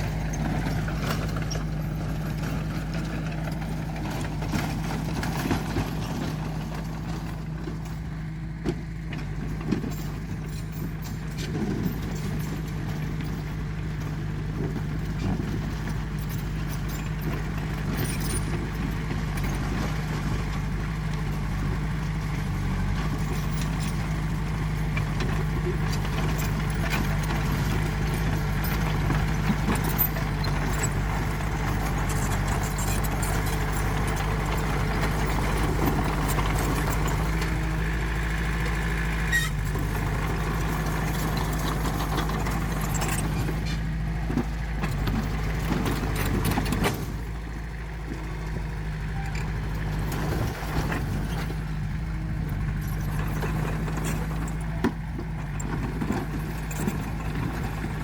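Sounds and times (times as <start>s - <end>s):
metal clanks and knocks: 0.0s - 47.3s
heavy diesel engine running: 0.0s - 58.0s.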